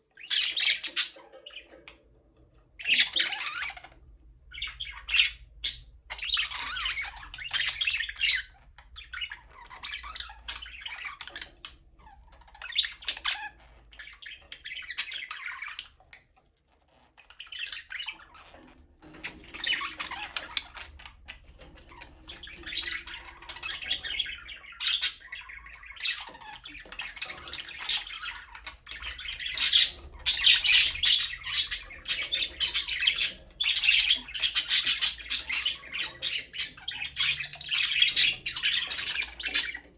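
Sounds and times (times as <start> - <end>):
budgerigars chirping and chattering: 0.1 - 39.9.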